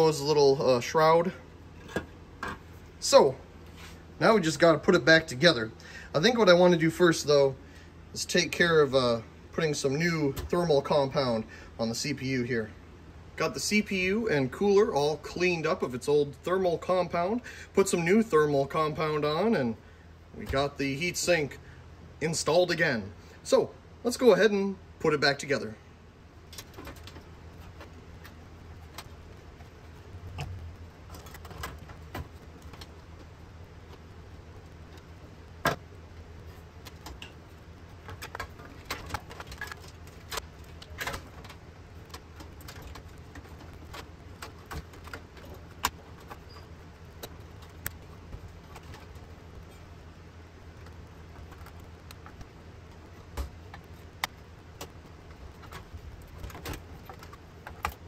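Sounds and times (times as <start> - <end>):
cooling fan humming: 0.0 - 58.0.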